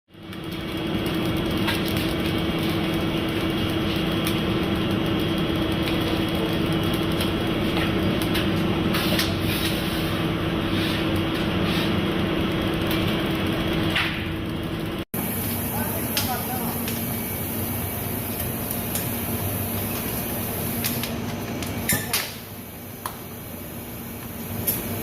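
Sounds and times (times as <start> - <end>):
machinery humming: 0.1 - 25.0.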